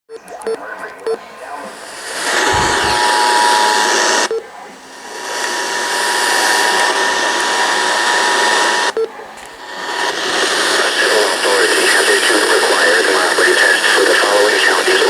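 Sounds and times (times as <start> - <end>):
radio static hiss: 0.1 - 15.0.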